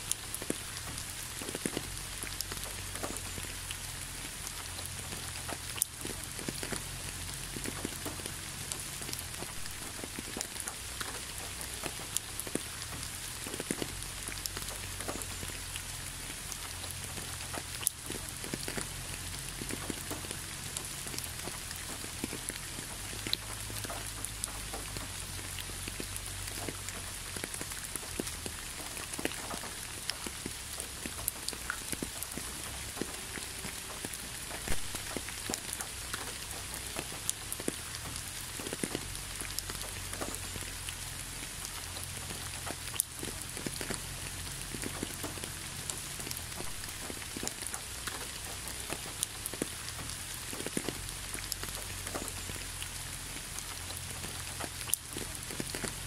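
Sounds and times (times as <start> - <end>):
gentle rain hissing: 0.0 - 56.0.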